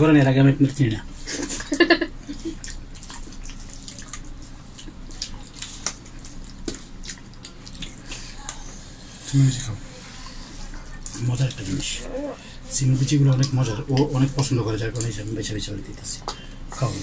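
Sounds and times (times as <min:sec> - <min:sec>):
wet eating by hand: 0:00.7 - 0:17.0.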